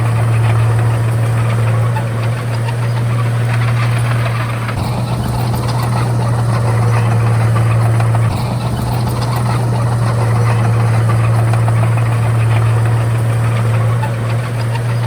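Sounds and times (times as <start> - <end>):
bulldozer diesel engine droning: 0.0 - 15.0
machine rattle and clatter: 0.0 - 15.0.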